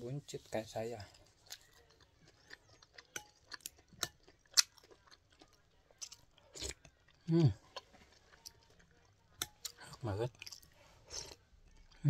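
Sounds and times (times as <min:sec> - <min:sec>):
person chewing food: 0:00.5 - 0:12.0.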